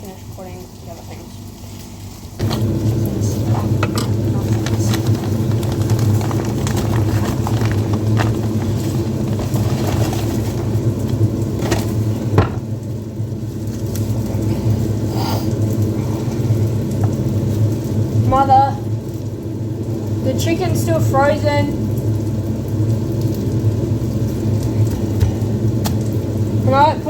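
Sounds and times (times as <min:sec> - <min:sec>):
kitchen appliance humming: 0:00.0 - 0:27.0.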